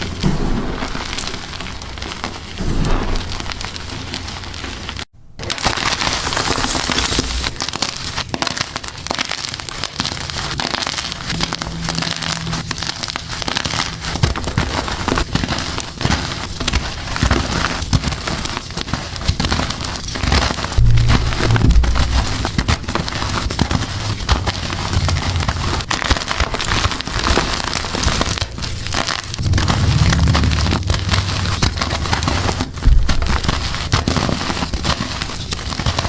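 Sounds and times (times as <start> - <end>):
chalk blocks crunching: 0.8 - 20.8, 22.4 - 36.0.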